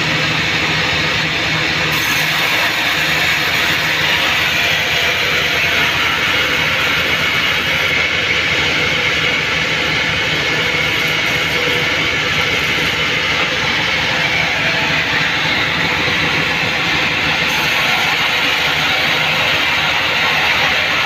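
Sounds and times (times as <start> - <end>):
band sawmill running: 0.0 - 21.0.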